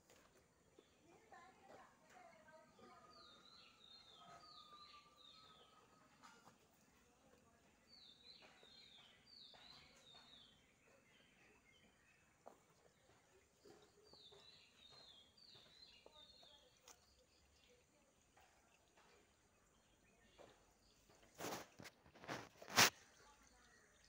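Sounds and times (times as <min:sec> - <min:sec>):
faint bird song: 0:00.0 - 0:24.0.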